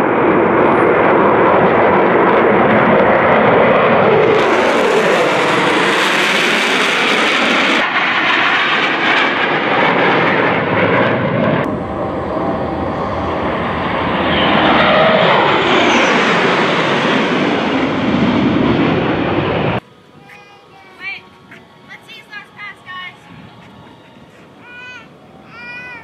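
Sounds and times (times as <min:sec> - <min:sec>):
fighter jets flying past: 0:00.0 - 0:19.8, 0:21.0 - 0:26.0.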